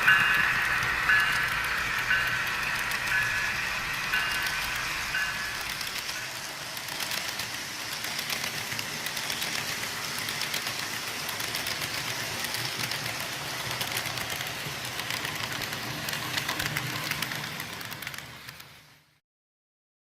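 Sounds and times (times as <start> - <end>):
model train humming: 0.0 - 19.1
wheels clicking on track: 0.0 - 19.2.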